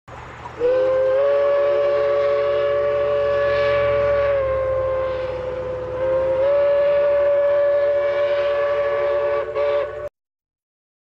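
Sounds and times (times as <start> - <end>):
locomotive air horn chord: 0.6 - 10.1.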